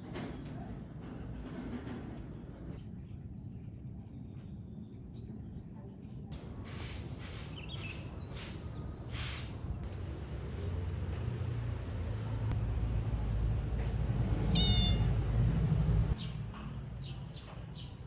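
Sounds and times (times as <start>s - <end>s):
crickets trilling: 0.0s - 13.2s, 14.1s - 18.0s.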